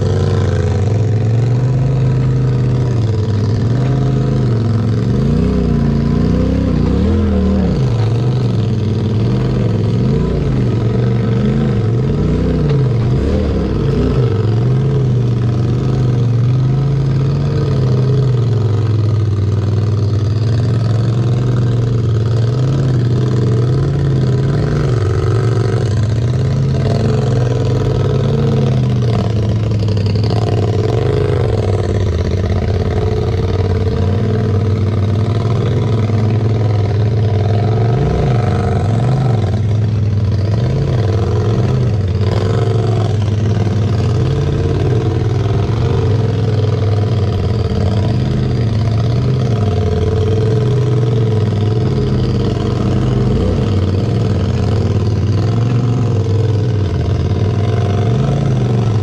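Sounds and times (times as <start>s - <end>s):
off-road vehicle engine at low revs: 0.0s - 59.0s.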